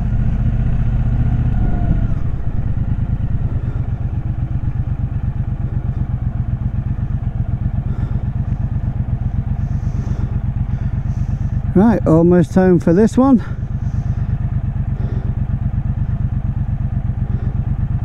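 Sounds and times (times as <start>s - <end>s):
motorcycle engine pulsing: 0.0s - 18.0s.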